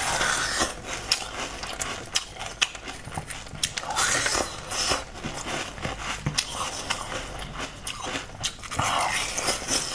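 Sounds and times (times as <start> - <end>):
wet jelly slurping: 0.0 - 9.9.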